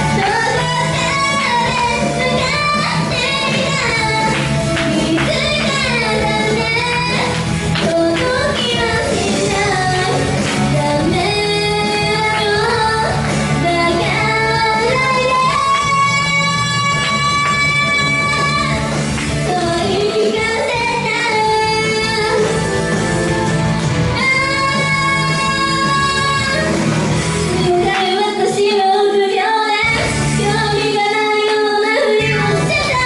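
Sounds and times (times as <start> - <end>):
pop band accompaniment: 0.0 - 33.0
woman singing pop song: 0.0 - 33.0.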